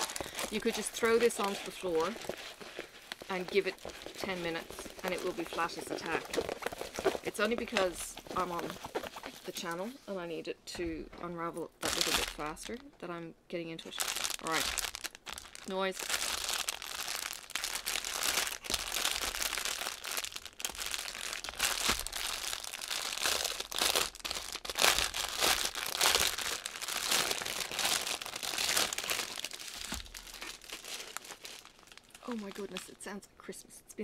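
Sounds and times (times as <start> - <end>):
plastic wrap crinkling: 0.0 - 10.2, 11.6 - 13.0, 13.8 - 33.1.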